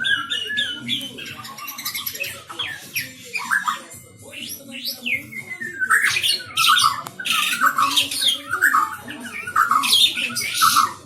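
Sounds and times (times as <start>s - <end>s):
songbird singing whistles: 0.0s - 11.0s.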